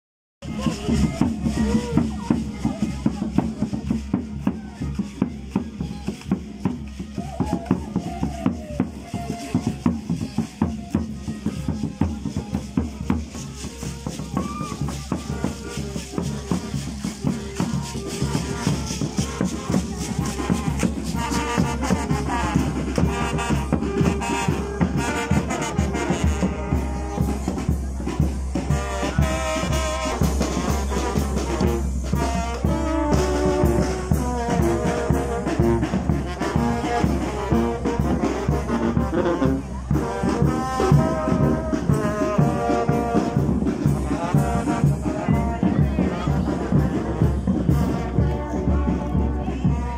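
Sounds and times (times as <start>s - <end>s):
fast steady drumbeat: 0.4s - 49.9s
brass band playing: 8.0s - 49.9s.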